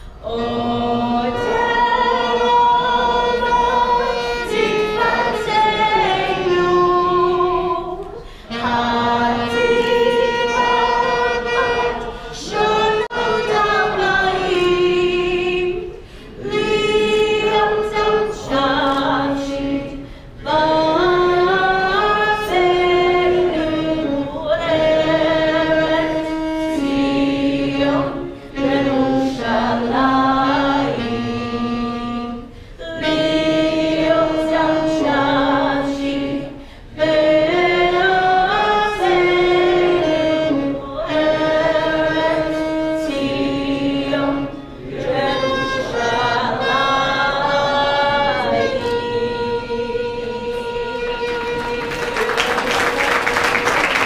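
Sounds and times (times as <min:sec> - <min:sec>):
woman singing unaccompanied: 0:00.0 - 0:52.6.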